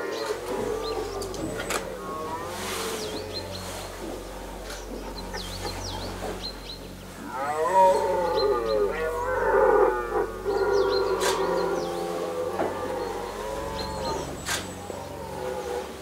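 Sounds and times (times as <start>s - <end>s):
deer stag roaring: 0.0s - 6.3s, 7.2s - 16.0s.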